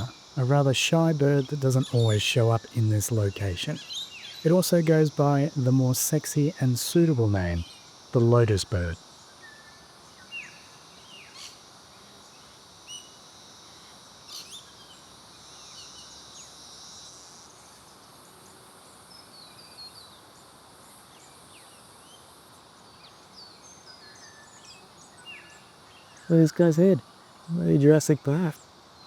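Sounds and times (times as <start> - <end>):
high insect drone: 0.0 - 29.0.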